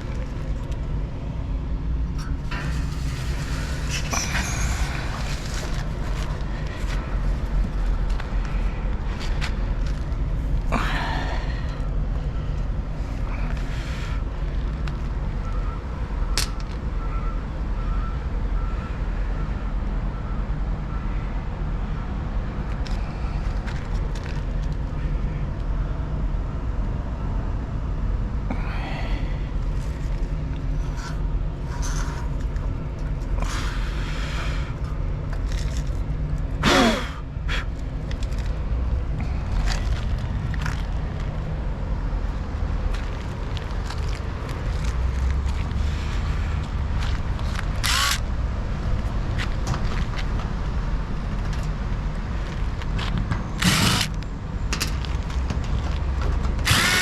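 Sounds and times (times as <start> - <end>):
low mechanical drone: 0.0 - 57.0.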